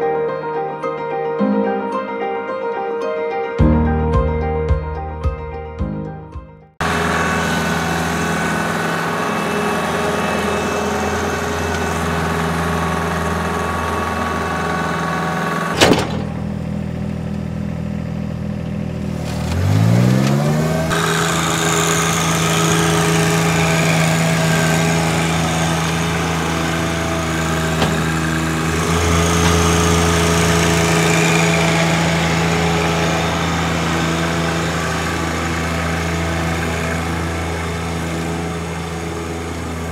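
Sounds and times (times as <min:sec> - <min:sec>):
power harrow working soil: 0:06.8 - 0:39.9
tractor engine revving: 0:06.8 - 0:39.9
tractor engine running under load: 0:06.8 - 0:39.9.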